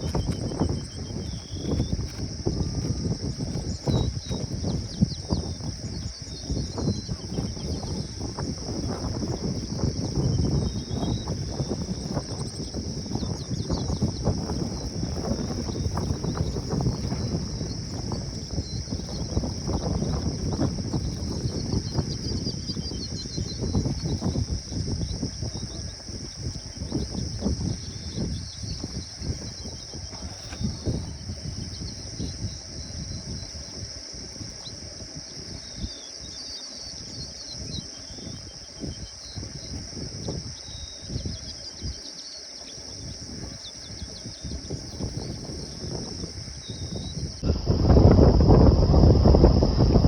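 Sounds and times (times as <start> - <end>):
insect chorus: 0.0 - 50.0
wind buffeting microphone: 0.0 - 50.0.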